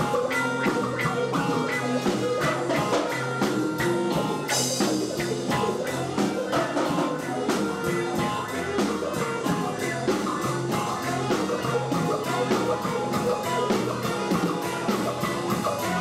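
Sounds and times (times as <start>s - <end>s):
live reggae band playing: 0.0s - 16.0s.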